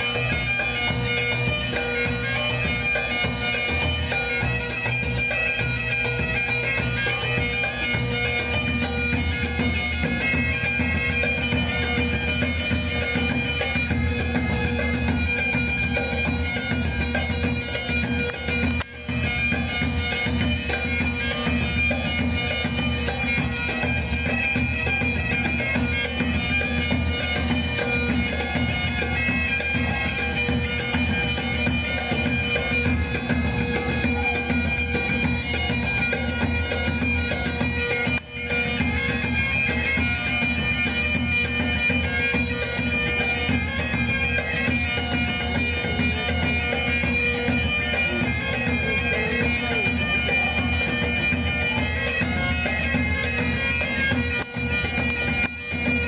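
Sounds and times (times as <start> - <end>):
bagpipe music: 0.0 - 56.0.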